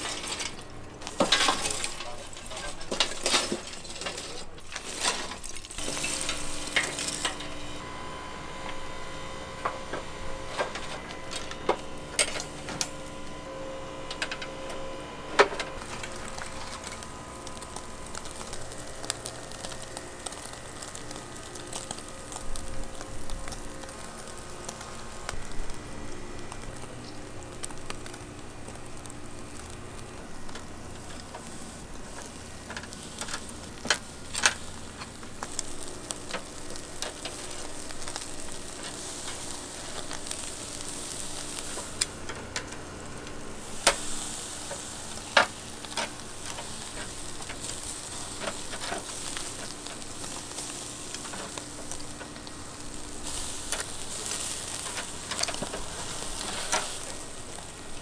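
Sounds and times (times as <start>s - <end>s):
meat sizzling over charcoal: 0.0s - 58.0s.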